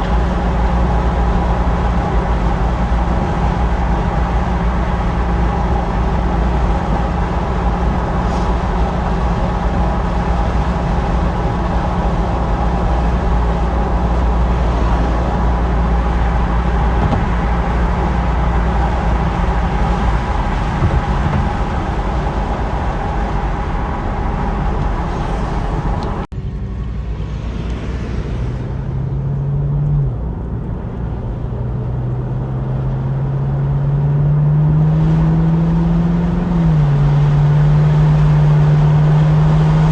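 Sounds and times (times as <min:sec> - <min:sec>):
car engine accelerating: 0:00.0 - 0:39.9
road rumble: 0:00.0 - 0:39.9.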